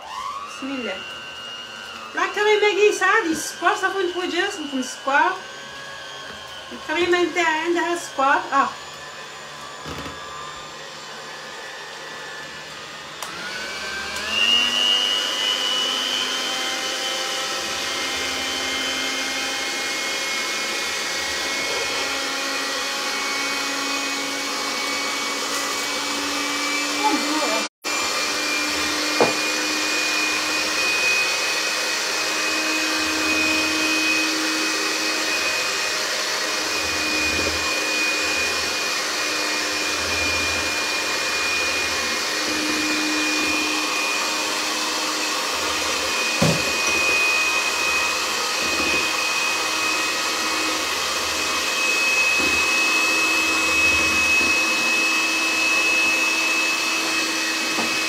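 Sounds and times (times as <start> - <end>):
electric hand mixer whisking: 0.0 - 58.0.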